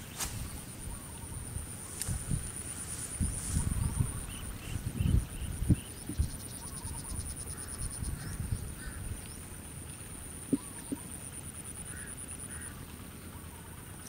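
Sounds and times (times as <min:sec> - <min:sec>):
faint birdlike calls: 0:00.0 - 0:14.0
steady high-pitched whine: 0:00.0 - 0:14.0.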